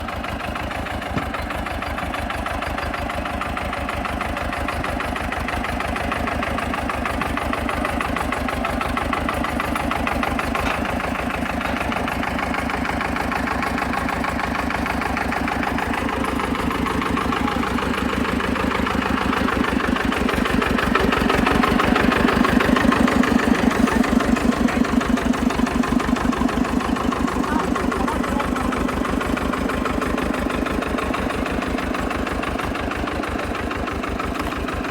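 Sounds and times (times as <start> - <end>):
tractor diesel engine chugging: 0.0 - 34.9.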